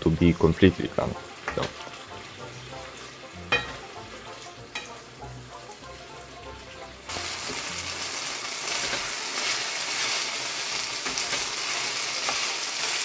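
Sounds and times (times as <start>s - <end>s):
meat and rice sizzling in a pan: 0.0s - 13.0s.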